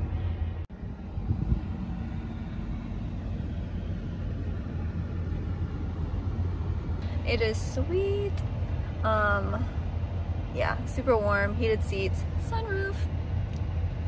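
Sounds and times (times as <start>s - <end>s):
car interior engine and road rumble: 0.0s - 14.0s.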